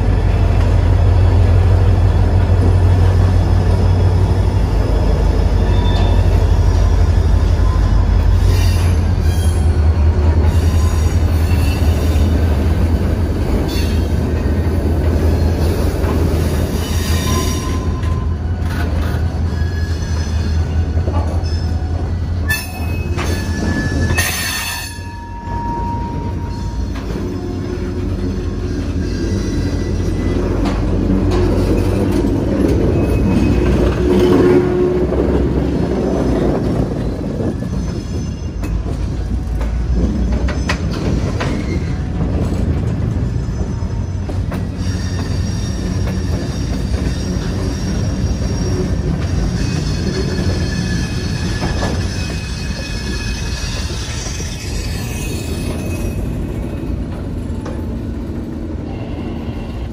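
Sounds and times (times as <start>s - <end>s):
steel wheels rumbling on rail: 0.0s - 59.9s
train wheels squealing: 2.6s - 12.5s, 13.6s - 35.0s, 35.6s - 57.8s, 58.8s - 59.9s.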